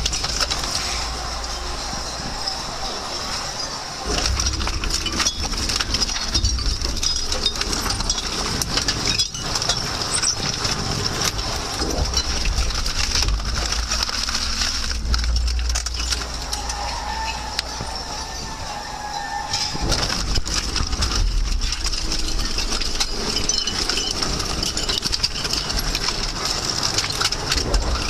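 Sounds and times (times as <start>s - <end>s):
metal crunching and snapping: 0.0s - 2.8s, 4.0s - 28.0s
low machine rumble: 0.0s - 28.0s.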